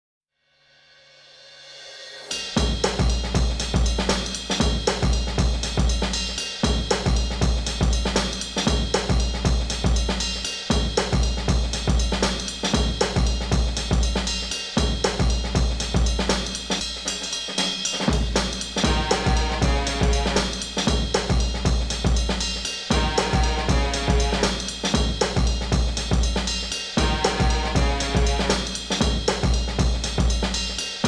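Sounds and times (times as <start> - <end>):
drum kit playing a steady beat: 1.3 - 31.0.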